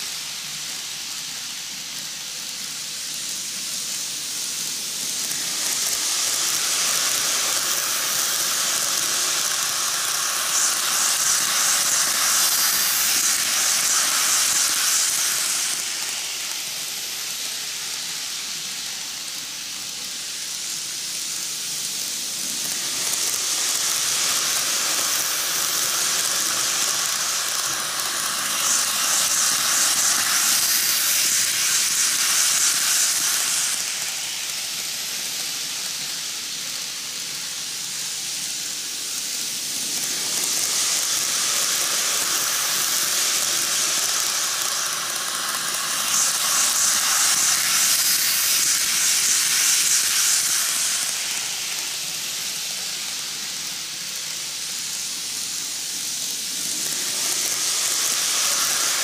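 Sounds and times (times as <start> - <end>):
model trains rolling on rails: 0.0 - 59.0.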